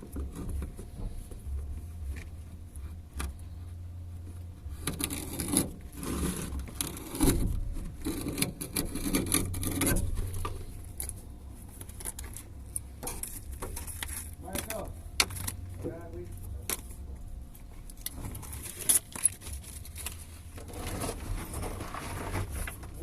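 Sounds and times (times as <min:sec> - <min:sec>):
rubbing and scraping: 0:00.0 - 0:23.0
steady low rumble: 0:00.0 - 0:23.0.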